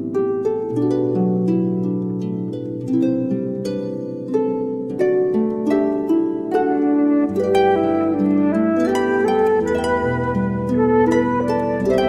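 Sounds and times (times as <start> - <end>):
plucked harp-like notes: 0.0 - 12.0.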